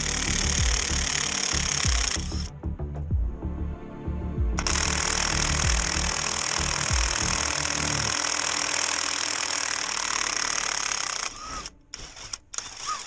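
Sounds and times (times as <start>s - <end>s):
impact wrench rattling: 0.0s - 2.5s, 4.6s - 13.0s.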